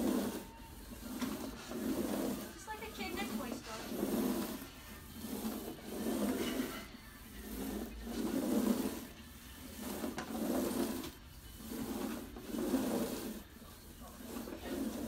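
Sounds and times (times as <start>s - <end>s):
carpet sweeper swishing: 0.0s - 15.0s.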